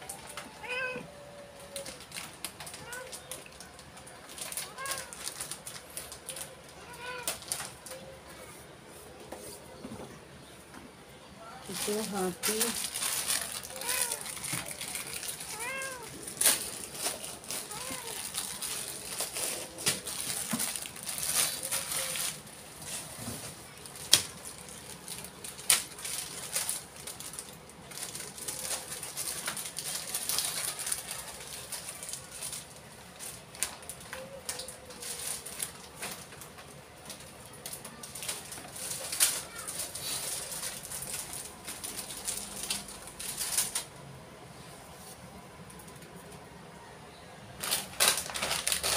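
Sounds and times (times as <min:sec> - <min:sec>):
packaging rustling and clattering: 0:01.6 - 0:08.1, 0:11.6 - 0:43.9, 0:47.6 - 0:48.9.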